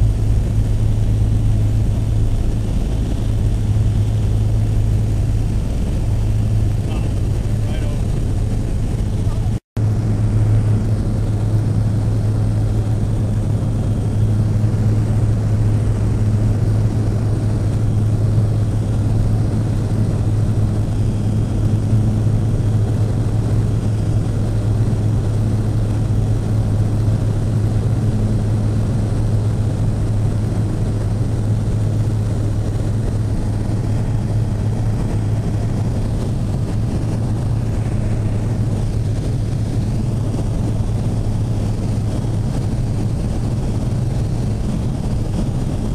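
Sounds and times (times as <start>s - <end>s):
plane engine and propeller droning: 0.0s - 45.9s
rushing air noise: 0.0s - 45.9s.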